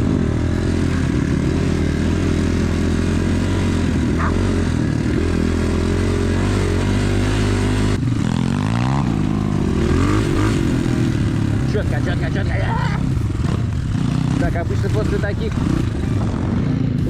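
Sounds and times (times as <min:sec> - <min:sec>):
motorbike engine revving: 0:00.0 - 0:17.0.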